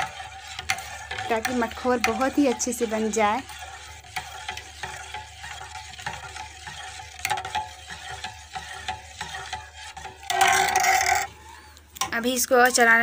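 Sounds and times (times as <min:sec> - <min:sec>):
metal ladle scraping a pot: 0:00.0 - 0:12.2.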